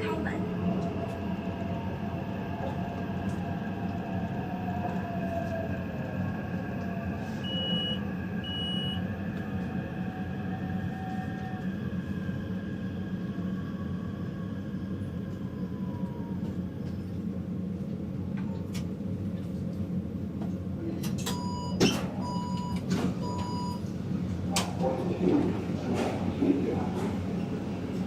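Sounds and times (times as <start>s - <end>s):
train rumbling with whine: 0.0s - 28.0s.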